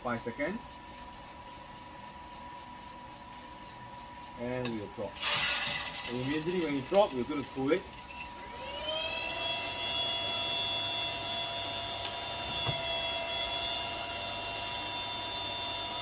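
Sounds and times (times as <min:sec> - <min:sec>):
cooling fan whine: 0:00.0 - 0:16.0.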